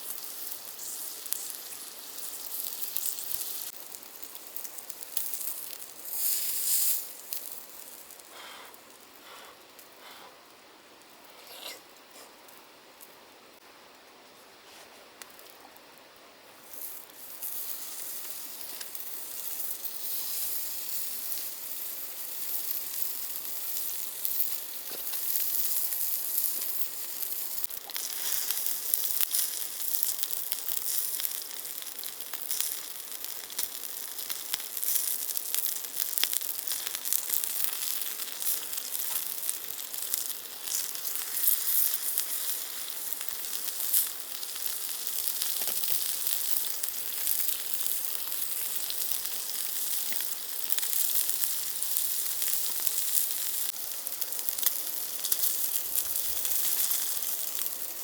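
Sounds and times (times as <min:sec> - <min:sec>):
meat sizzling on a grill: 0:00.0 - 0:10.2, 0:16.6 - 0:58.0.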